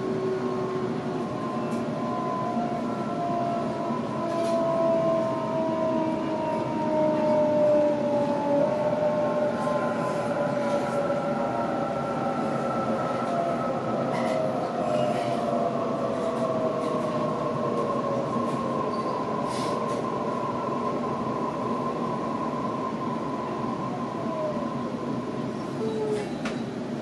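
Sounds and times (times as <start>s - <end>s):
wheels rumbling on track: 0.0s - 27.0s.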